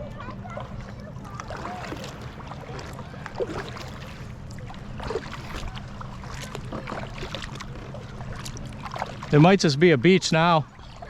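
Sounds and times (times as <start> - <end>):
paddle dipping and dripping: 0.0 - 11.0
water sloshing against hull: 0.0 - 11.0
water splashes: 0.0 - 11.0.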